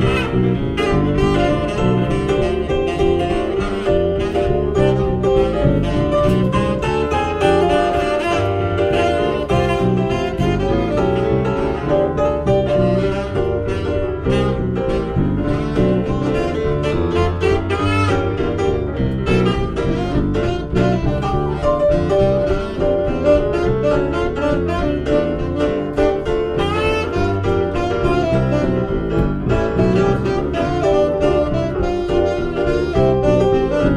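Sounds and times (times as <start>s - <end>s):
bass line: 0.0s - 33.9s
saxophone: 0.0s - 33.9s
steady drum beat: 0.0s - 33.9s.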